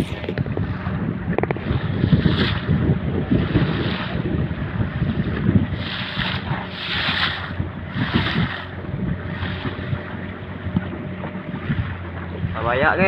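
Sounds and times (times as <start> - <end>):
boat engine running: 0.0 - 13.0
water splashing against hull: 0.0 - 13.0
wind buffeting microphone: 0.0 - 13.0.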